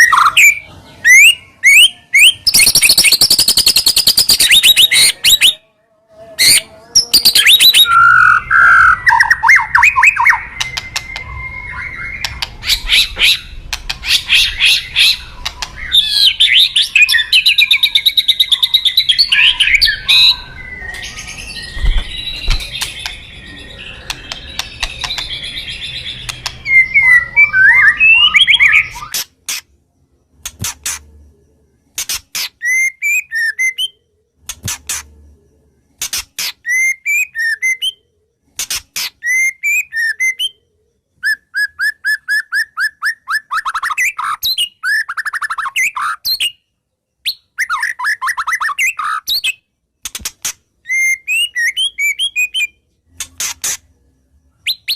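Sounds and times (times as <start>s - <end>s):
bird singing trills and whistles: 0.0s - 5.6s, 6.4s - 29.3s, 32.4s - 34.0s, 36.4s - 38.0s, 39.0s - 40.6s, 41.2s - 49.7s, 50.8s - 52.8s, 54.6s - 54.9s.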